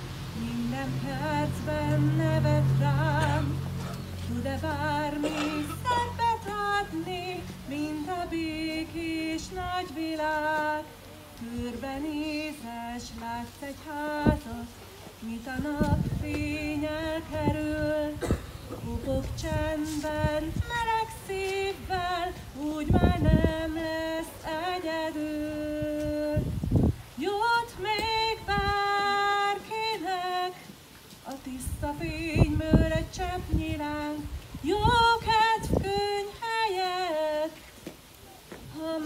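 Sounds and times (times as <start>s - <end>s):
woman singing into a microphone: 0.2s - 39.0s.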